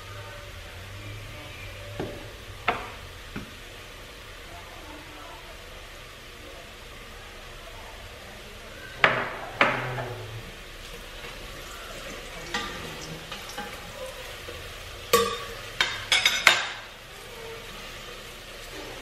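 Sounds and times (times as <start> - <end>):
faint sizzle: 0.0 - 19.0.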